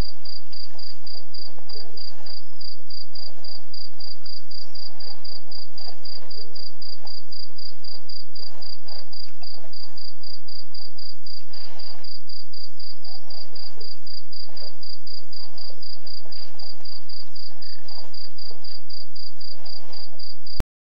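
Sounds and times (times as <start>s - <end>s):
cricket chirping: 0.0s - 20.6s
faint shuffling noises: 0.0s - 20.6s.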